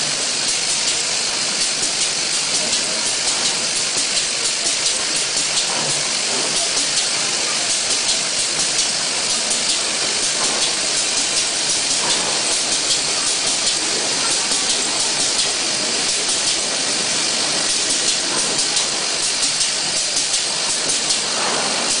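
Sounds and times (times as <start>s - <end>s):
compressed air hissing: 0.0s - 22.0s.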